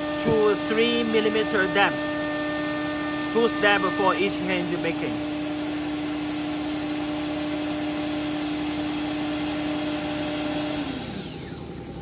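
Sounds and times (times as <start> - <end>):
milling spindle whine: 0.0 - 12.0
wood cutting noise: 0.0 - 12.0.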